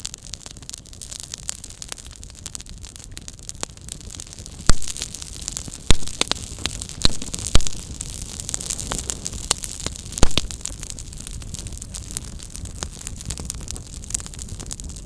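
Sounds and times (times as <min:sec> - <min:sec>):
campfire crackling: 0:00.0 - 0:15.0
fire popping loudly: 0:00.0 - 0:15.0.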